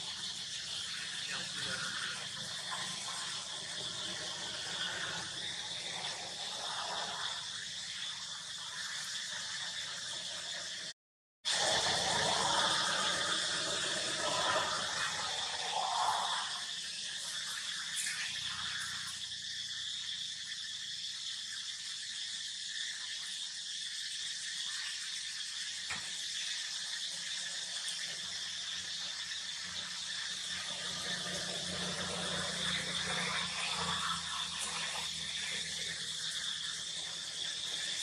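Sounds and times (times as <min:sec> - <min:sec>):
high-pitched insect chorus: 0:00.0 - 0:10.9, 0:11.5 - 0:38.0.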